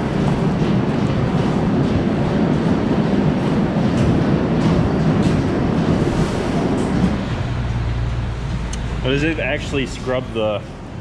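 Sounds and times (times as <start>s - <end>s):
conveyors and rollers running: 0.0s - 11.0s.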